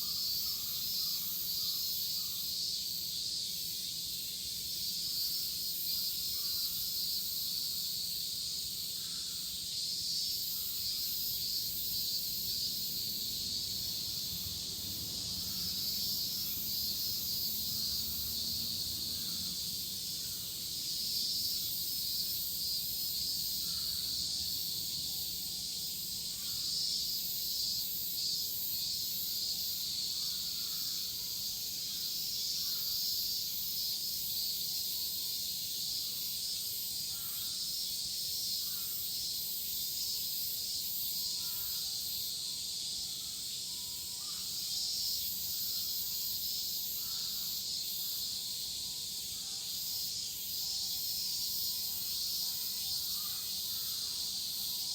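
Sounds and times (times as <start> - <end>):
cicadas shrilling: 0.0 - 54.9.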